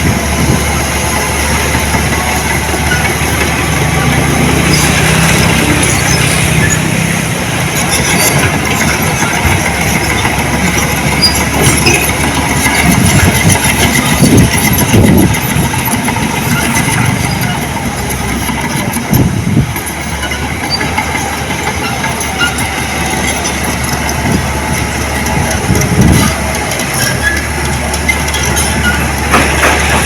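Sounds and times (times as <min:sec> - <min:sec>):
diesel engine of heavy machinery: 0:00.0 - 0:30.0.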